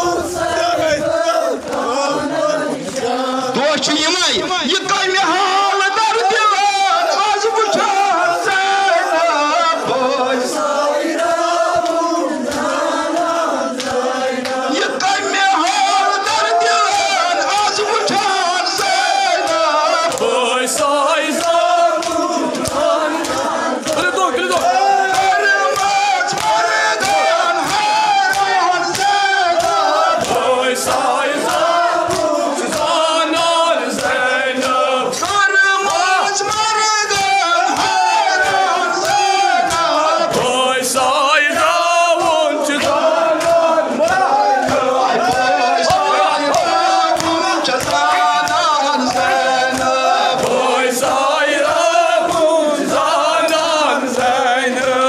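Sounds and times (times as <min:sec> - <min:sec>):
men chanting together: 0:00.0 - 0:55.0.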